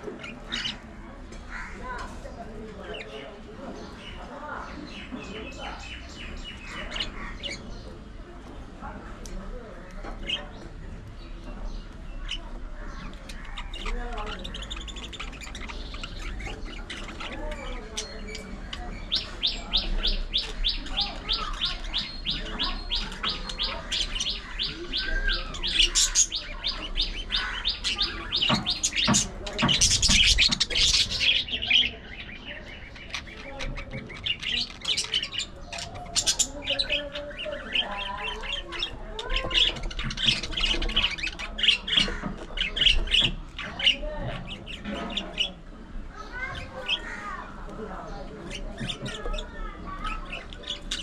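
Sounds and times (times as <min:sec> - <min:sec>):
budgerigars chattering and chirping: 0:00.0 - 0:51.0.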